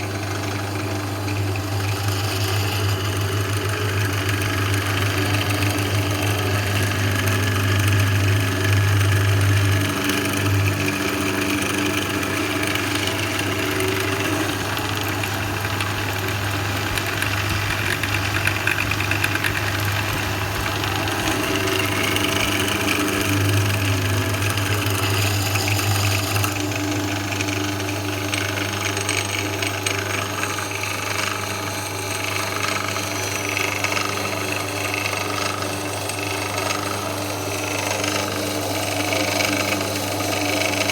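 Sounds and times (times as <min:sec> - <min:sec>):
drill press motor humming: 0:00.0 - 0:40.9.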